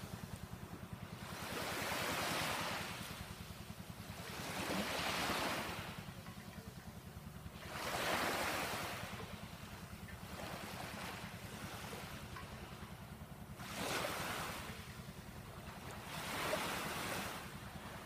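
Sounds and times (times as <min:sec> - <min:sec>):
gentle waves washing ashore: 0:00.0 - 0:18.0
low fast steady throb: 0:00.0 - 0:18.0.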